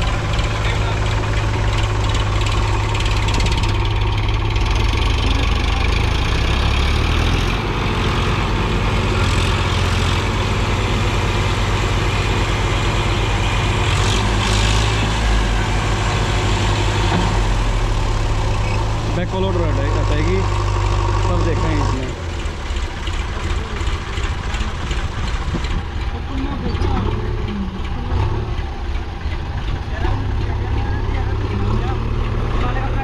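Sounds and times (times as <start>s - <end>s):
diesel tractor engines droning: 0.0s - 33.0s.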